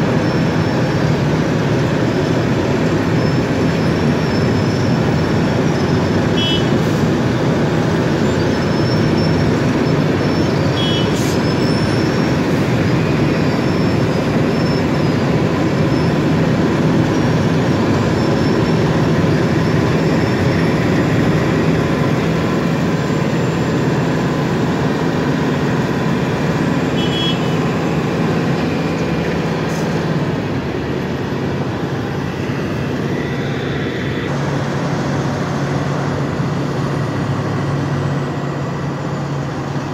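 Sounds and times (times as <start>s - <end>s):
milling machine diesel drone: 0.0s - 39.9s.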